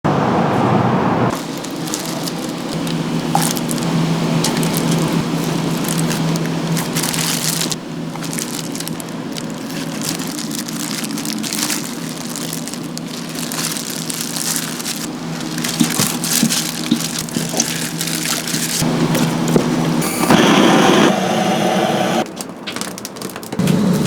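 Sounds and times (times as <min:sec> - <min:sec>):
low steady hum: 0:00.5 - 0:22.2
wood fire crackling and popping: 0:01.3 - 0:21.1, 0:22.0 - 0:24.0.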